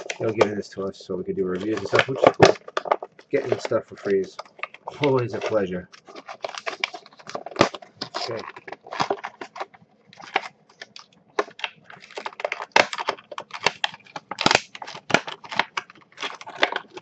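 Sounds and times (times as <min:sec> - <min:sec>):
plastic packaging crackling and ripping: 0:00.0 - 0:00.6, 0:01.4 - 0:17.0.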